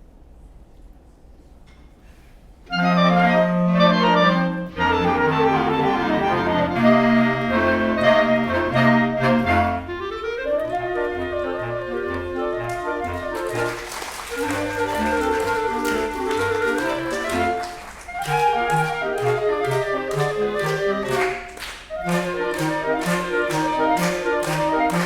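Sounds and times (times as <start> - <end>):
clarinet ensemble playing: 2.7 - 25.0.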